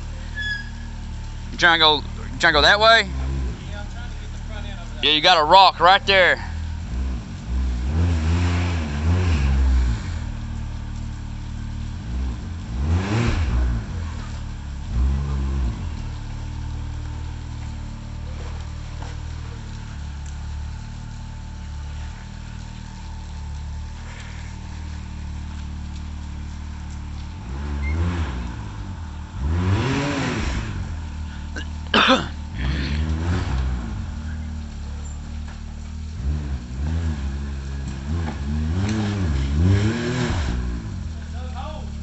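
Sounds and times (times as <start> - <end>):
engine idling: 0.0 - 7.8, 9.6 - 39.9, 40.5 - 42.0.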